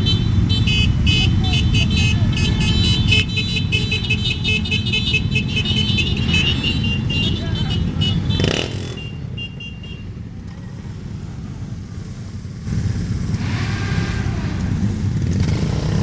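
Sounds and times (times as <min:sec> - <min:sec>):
motorcycle engine rev: 0:00.0 - 0:09.6, 0:10.4 - 0:16.0
motorcycle engines rumbling: 0:00.0 - 0:16.0.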